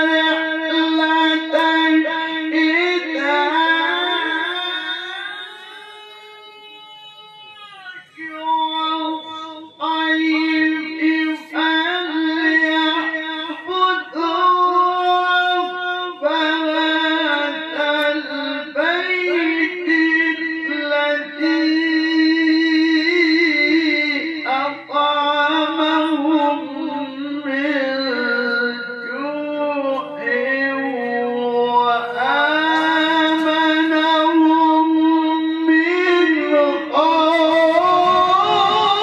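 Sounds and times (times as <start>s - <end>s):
man chanting: 0.0s - 39.0s.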